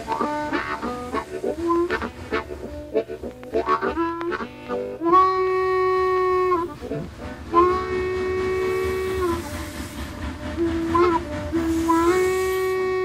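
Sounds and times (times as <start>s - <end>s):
harmonica train imitation: 0.0s - 13.0s.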